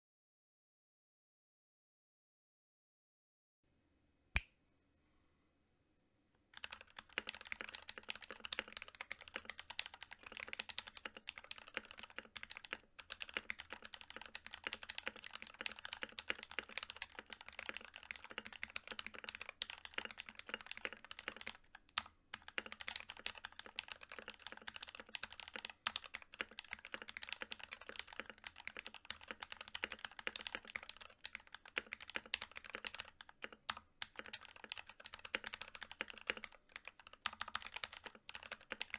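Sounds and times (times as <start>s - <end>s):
fast typing on mechanical keyboard: 6.6s - 38.9s.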